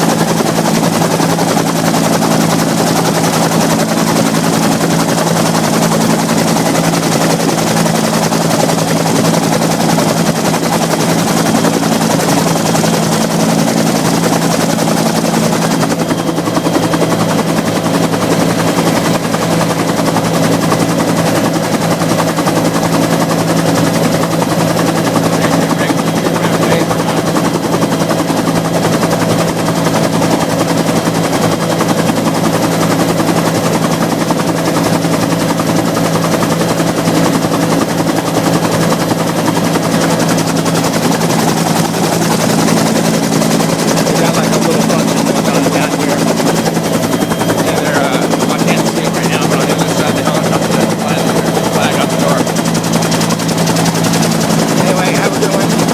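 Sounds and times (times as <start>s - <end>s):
engine drone: 0.0s - 55.9s
helicopter rotor beat: 0.0s - 55.9s.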